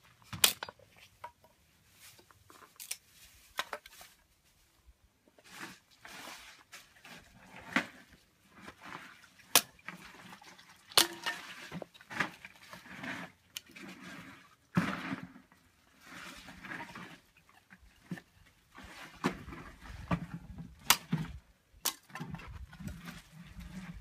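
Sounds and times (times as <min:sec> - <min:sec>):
sticks rustling and scraping: 0:00.0 - 0:24.0.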